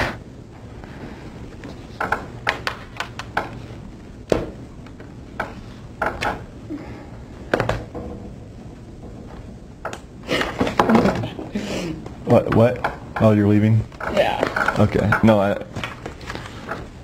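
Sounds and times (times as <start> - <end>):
low room noise: 0.0 - 17.0.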